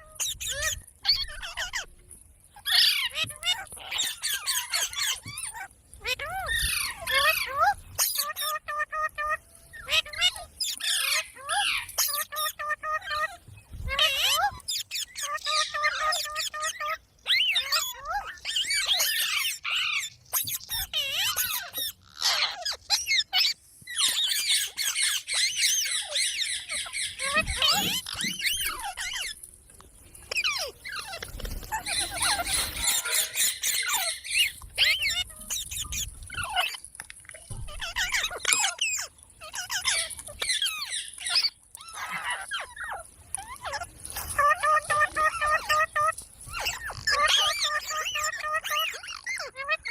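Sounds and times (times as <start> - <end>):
parrot chattering and squeaking: 0.0 - 29.5, 30.1 - 49.9.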